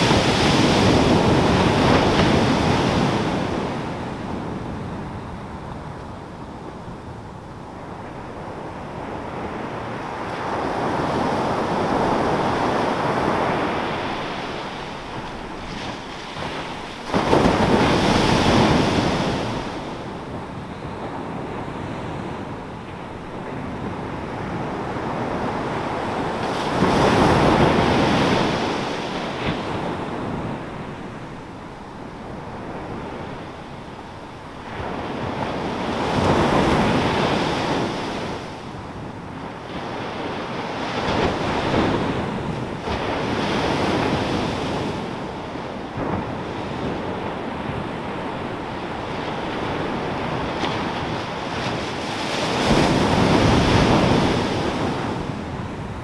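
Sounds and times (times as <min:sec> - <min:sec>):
waves crashing on beach: 0:00.0 - 0:56.0.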